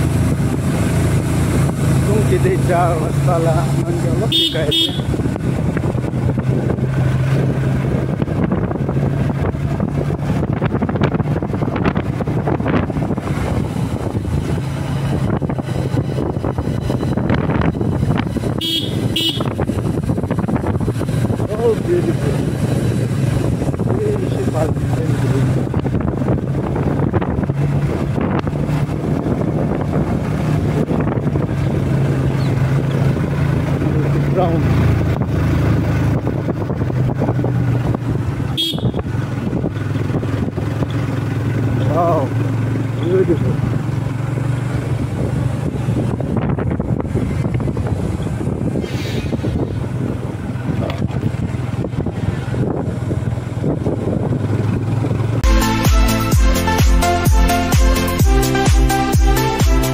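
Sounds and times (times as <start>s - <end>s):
wind buffeting microphone: 0.0s - 55.5s
motorcycle engine running: 0.0s - 59.9s.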